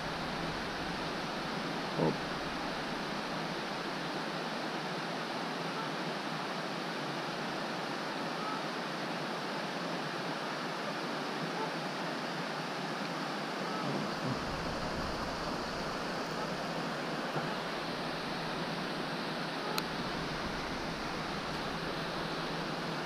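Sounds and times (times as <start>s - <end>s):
river water pouring over a weir: 0.0s - 23.0s.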